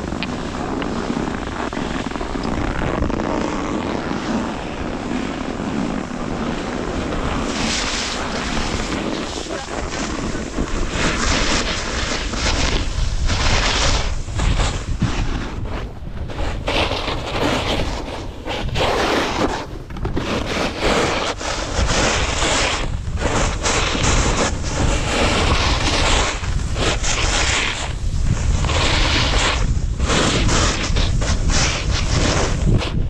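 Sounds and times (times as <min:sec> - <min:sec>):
snowboard scraping over snow: 0:00.0 - 0:33.0
wind rushing over microphone: 0:00.0 - 0:33.0.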